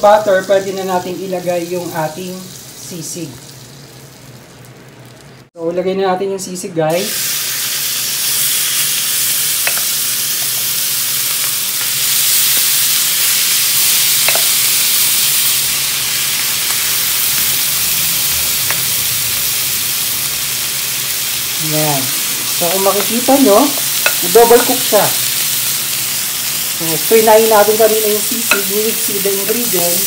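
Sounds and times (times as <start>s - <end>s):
food sizzling on hot plate: 0.0s - 5.5s, 6.9s - 30.0s.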